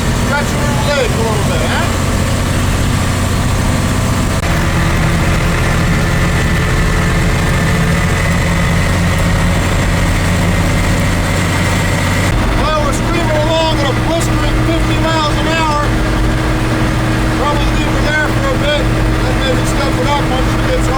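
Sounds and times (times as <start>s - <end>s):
high whine: 0.0s - 20.9s
truck engine running: 0.0s - 20.9s.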